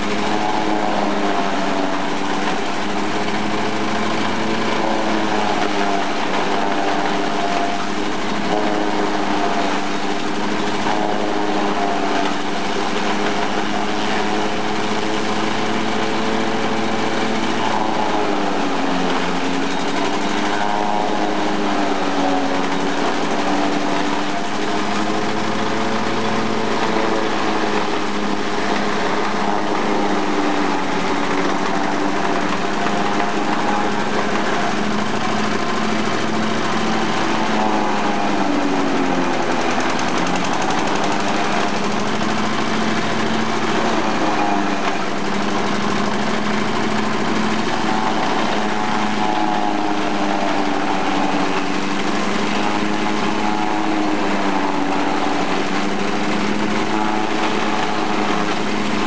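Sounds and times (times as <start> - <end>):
diesel engine running: 0.0 - 59.0
forage chopper chopping stalks: 0.0 - 59.0.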